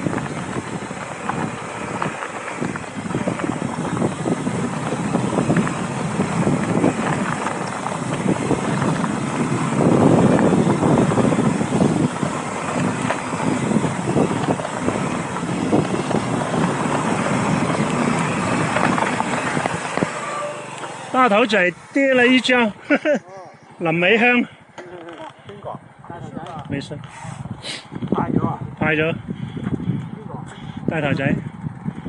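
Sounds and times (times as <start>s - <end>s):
wind on microphone: 0.0s - 22.8s, 25.4s - 32.0s
bike rattling over bumps: 0.0s - 32.0s.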